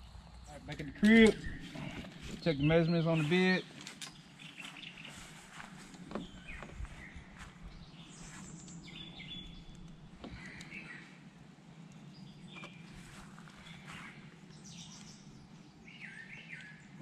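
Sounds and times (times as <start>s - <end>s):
low background hum: 0.0s - 17.0s
songbird chirps: 0.0s - 17.0s.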